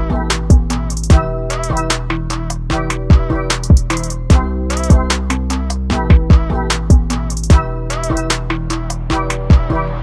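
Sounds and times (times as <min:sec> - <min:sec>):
hi-hat ticks: 0:00.0 - 0:09.8.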